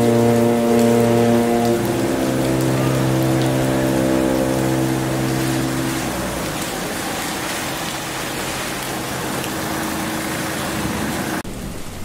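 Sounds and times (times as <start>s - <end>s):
rain splashing into a puddle: 0.0s - 12.0s.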